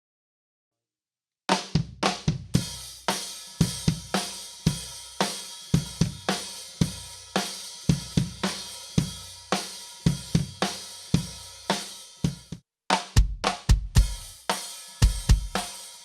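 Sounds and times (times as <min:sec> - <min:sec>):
drum kit groove: 0:01.5 - 0:16.0.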